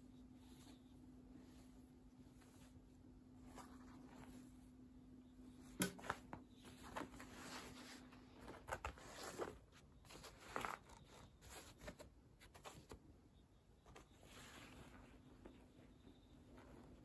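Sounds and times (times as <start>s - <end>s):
cloth rustling: 0.0s - 13.1s, 13.7s - 17.0s
faint steady hum: 0.0s - 17.0s.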